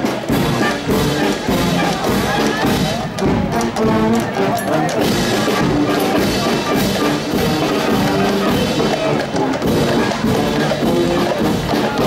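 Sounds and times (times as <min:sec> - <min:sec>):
marching band playing: 0:00.0 - 0:12.0
steady drum beat: 0:00.0 - 0:12.0.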